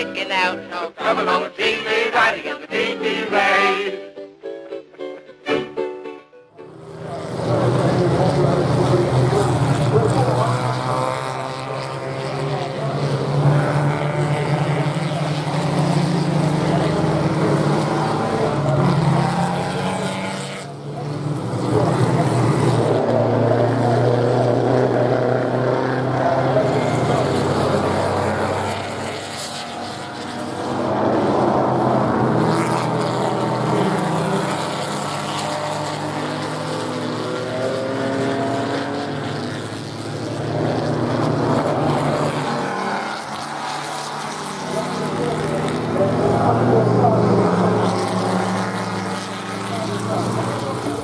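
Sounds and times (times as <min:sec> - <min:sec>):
racing car engines passing: 0:00.0 - 0:51.0.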